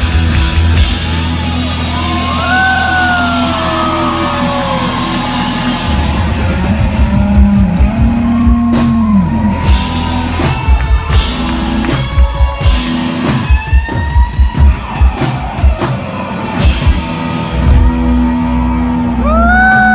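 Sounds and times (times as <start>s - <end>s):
drum kit: 0.0s - 19.9s
electric guitar: 0.0s - 19.9s
live rock band playing: 0.0s - 19.9s.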